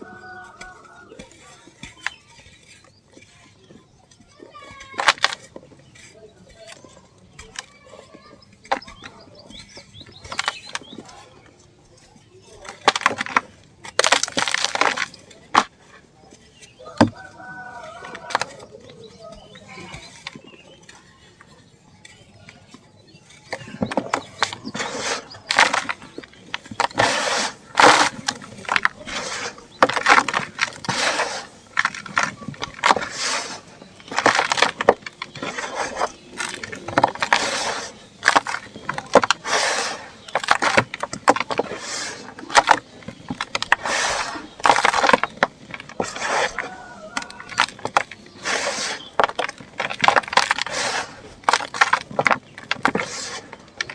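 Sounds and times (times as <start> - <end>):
dried dirt crumbling and crunching: 0.0 - 53.9.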